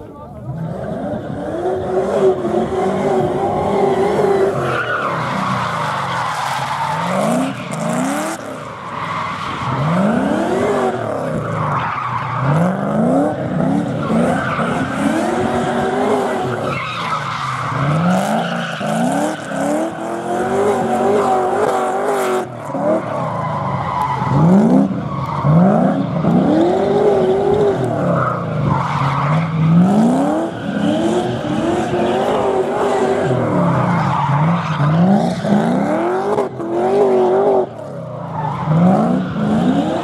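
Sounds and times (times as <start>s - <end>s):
car engine revving: 0.3s - 40.0s.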